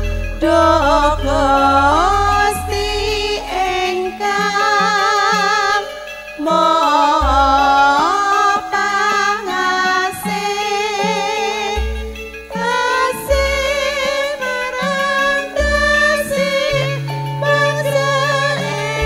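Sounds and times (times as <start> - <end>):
live band with deep bass: 0.0 - 19.0
women singing with vibrato: 0.0 - 19.0.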